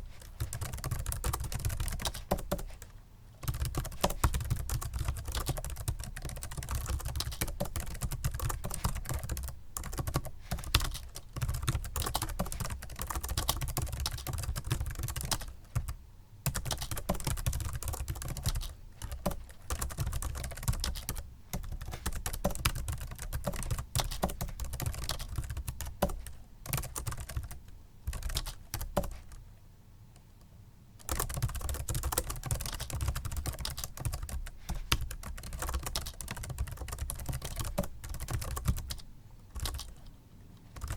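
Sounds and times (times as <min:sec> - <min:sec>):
soft keyboard typing: 0:00.0 - 0:29.4, 0:31.0 - 0:40.9.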